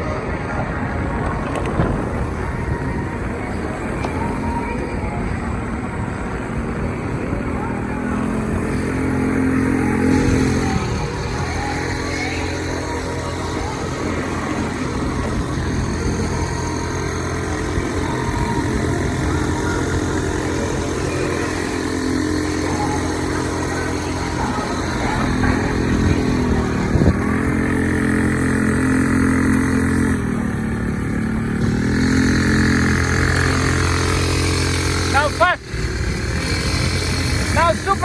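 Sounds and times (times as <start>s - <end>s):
small motorbike engine running: 0.0s - 38.0s.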